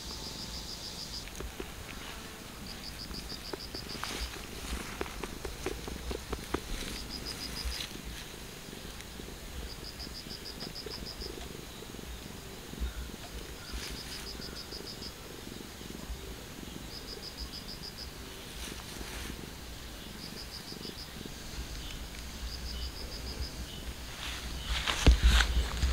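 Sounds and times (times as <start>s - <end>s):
pulsed insect chirp: 0.0s - 25.9s.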